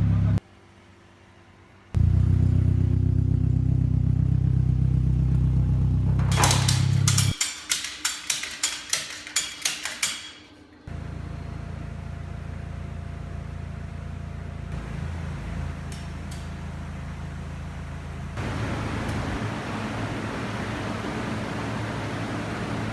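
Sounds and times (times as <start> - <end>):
engine running steadily: 0.0 - 7.4, 10.8 - 22.9.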